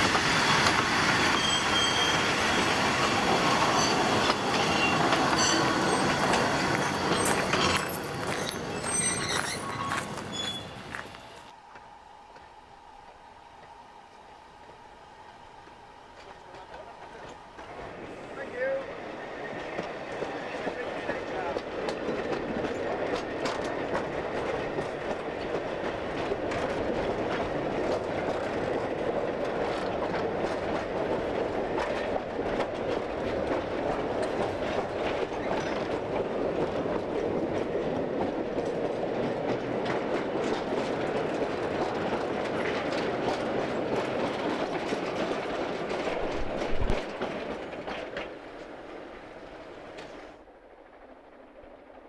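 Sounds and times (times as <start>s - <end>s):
wagon wheels rumbling on rails: 0.0s - 11.6s, 16.1s - 51.8s.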